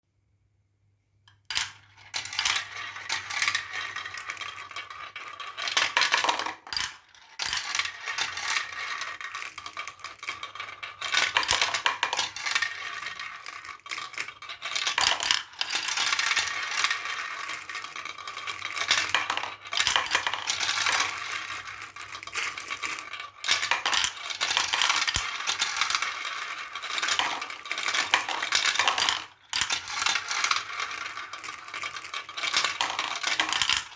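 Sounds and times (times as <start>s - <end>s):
marbles rattling down a marble run: 1.5s - 33.9s.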